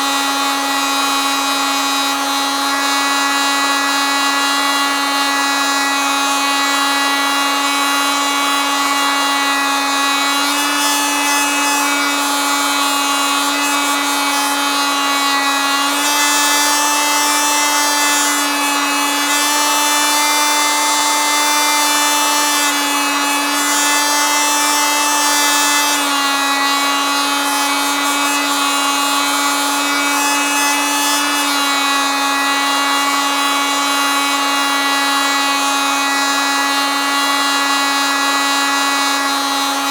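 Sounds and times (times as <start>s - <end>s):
oscillating multitool buzzing: 0.0s - 39.9s.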